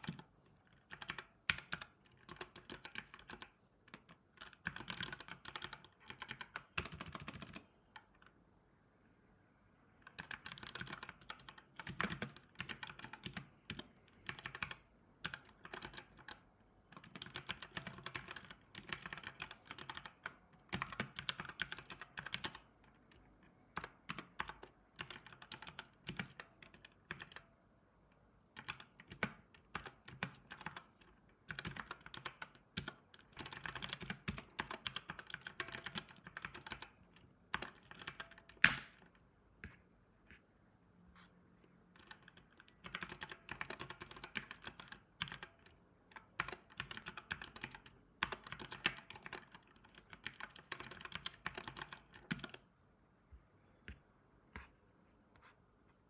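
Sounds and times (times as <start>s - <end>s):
typing on computer keyboard: 0.0s - 8.4s, 10.0s - 27.6s, 28.5s - 40.4s, 41.9s - 52.7s.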